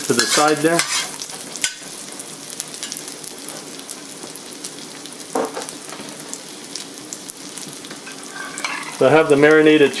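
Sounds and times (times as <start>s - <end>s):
ginger sizzling in hot oil: 0.0s - 10.0s.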